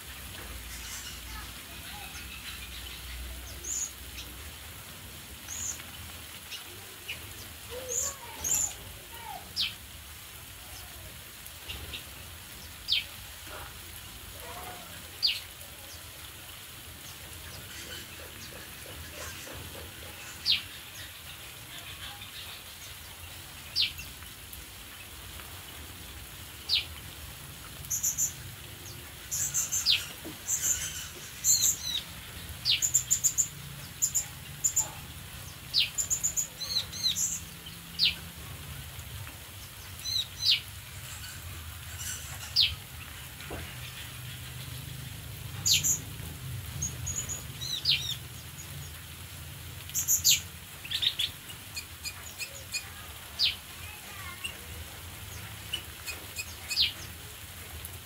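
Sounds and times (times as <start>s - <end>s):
small birds chirping: 0.3s - 57.5s.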